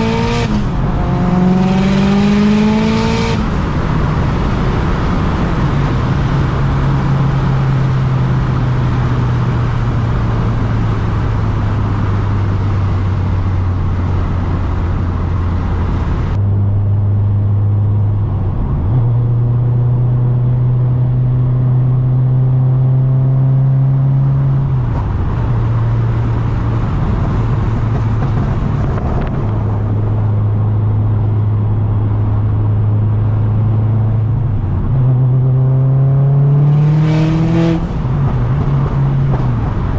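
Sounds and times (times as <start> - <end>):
car exhaust cruising: 0.0 - 39.9.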